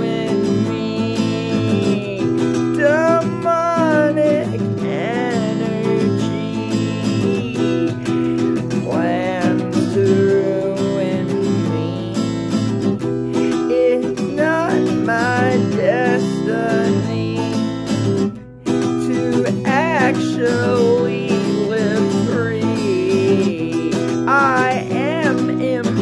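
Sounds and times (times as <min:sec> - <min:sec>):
acoustic guitar strumming chords: 0:00.0 - 0:26.0
person singing: 0:00.0 - 0:26.0.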